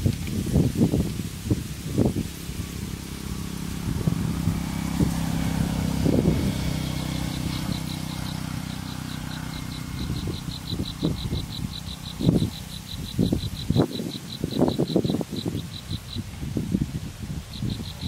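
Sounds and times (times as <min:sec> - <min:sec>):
low vehicle engine hum: 0:00.0 - 0:18.0
insect chirping: 0:02.9 - 0:18.0.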